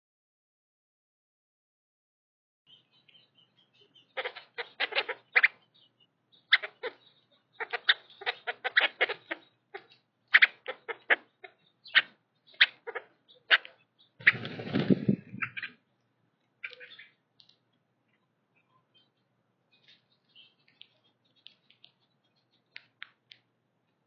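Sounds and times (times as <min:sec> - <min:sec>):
blackbirds harsh calls: 0:02.7 - 0:23.4.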